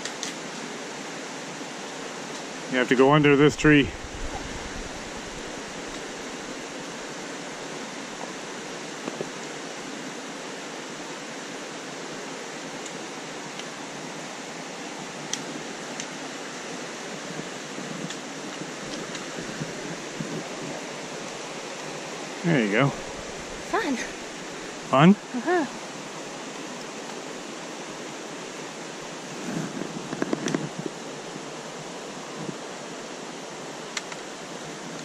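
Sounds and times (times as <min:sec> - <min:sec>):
flowing water rushing: 0:00.0 - 0:35.0.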